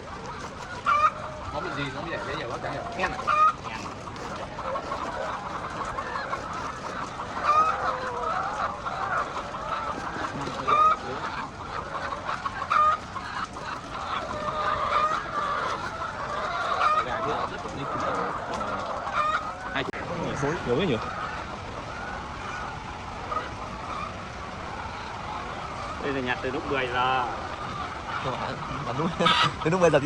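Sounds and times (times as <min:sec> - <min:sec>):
hens clucking: 0:00.0 - 0:30.0
hens squawking: 0:00.0 - 0:30.0.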